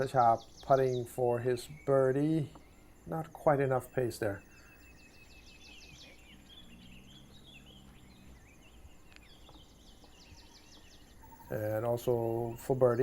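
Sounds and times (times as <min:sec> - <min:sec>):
faint low hum: 0:00.0 - 0:13.0
small birds chirping: 0:00.0 - 0:13.0
insect buzz: 0:01.6 - 0:13.0.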